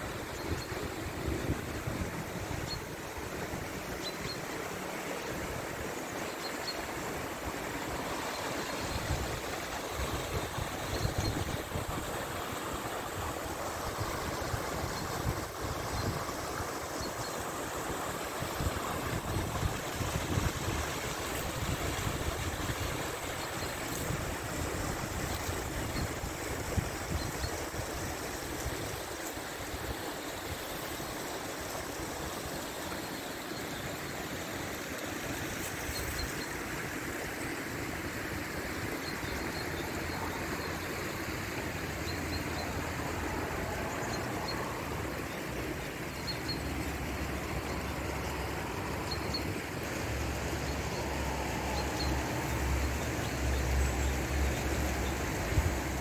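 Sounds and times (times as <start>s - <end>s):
stream splashing over rocks: 0.0s - 56.0s.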